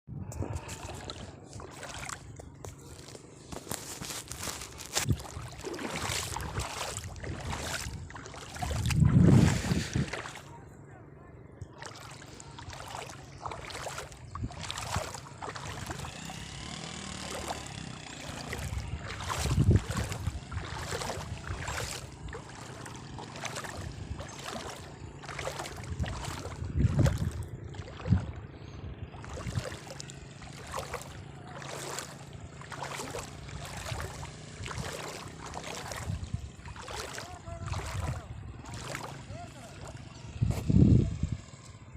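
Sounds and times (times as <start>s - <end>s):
low water sloshes: 0.3s - 3.5s, 4.2s - 10.9s, 11.6s - 41.9s
floodwater splashing: 0.3s - 10.7s, 11.6s - 40.4s
steady low hum: 4.8s - 41.9s.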